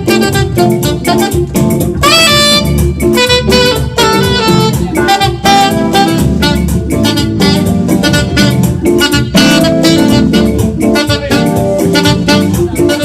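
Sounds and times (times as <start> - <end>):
band playing: 0.0 - 13.0
drums beating: 0.0 - 13.0
saxophone melody: 0.0 - 13.0.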